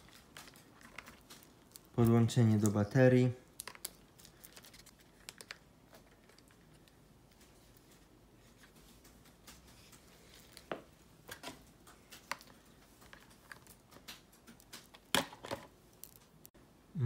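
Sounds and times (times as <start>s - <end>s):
hands handling plastic toy: 0.0s - 16.5s.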